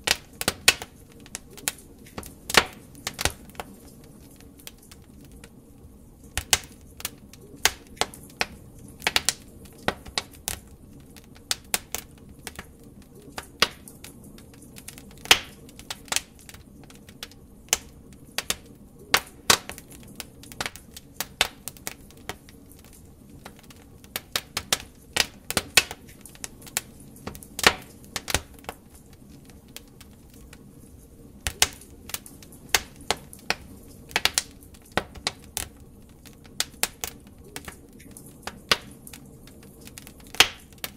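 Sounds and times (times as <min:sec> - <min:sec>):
low rush of flame: 0:00.0 - 0:40.9
wood fire crackling: 0:00.0 - 0:40.9.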